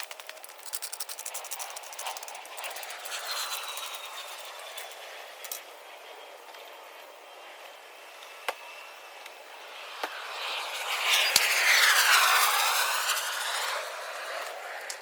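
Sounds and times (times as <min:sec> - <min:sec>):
vehicle passing by: 0:01.6 - 0:15.0.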